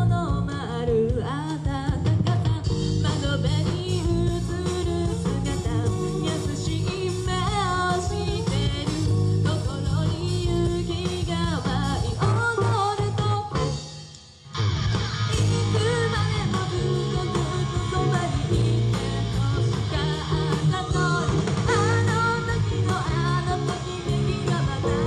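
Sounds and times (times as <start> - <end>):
woman singing into microphone: 0.0 - 13.8, 15.3 - 25.0
live rock band: 0.0 - 25.0.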